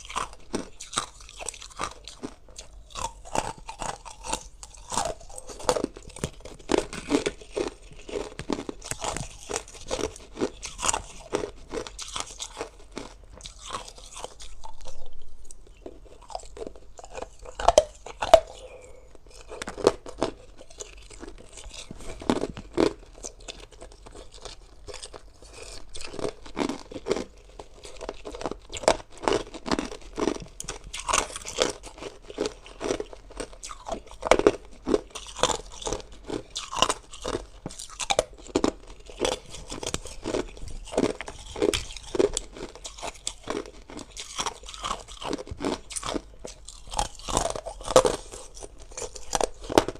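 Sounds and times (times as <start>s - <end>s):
person crunching ice: 0.0s - 49.9s.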